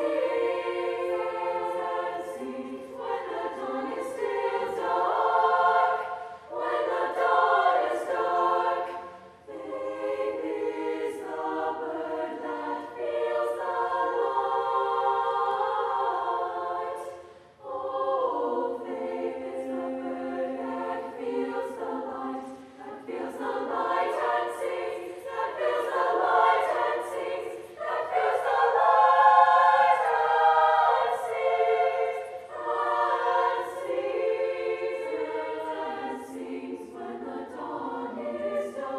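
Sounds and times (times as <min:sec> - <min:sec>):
women's choir singing: 0:00.0 - 0:38.9.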